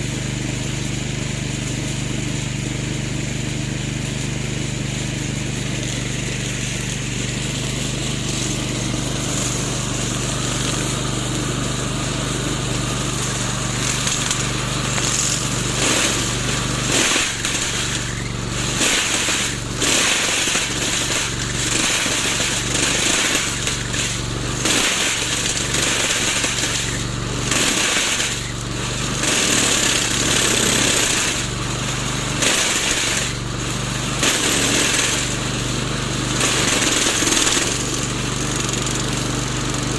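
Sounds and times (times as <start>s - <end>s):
lawn mower running: 0.0s - 39.9s
mower blade cutting wood: 0.0s - 39.9s.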